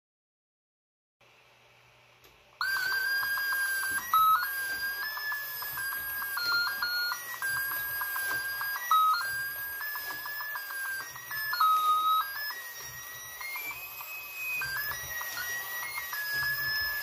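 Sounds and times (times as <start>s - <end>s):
toy beeping electronic tune: 2.6s - 17.0s
toy mechanism clatter: 2.6s - 17.0s.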